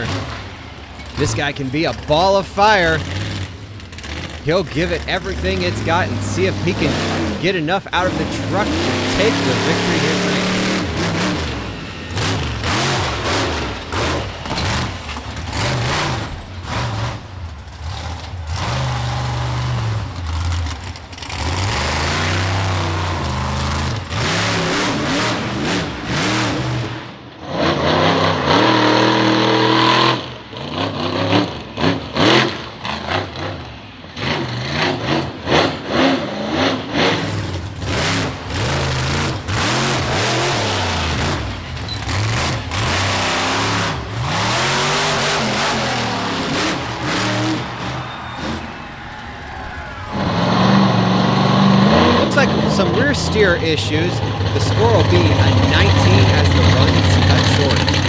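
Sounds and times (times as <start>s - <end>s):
monster truck engine revving: 0.0s - 58.0s.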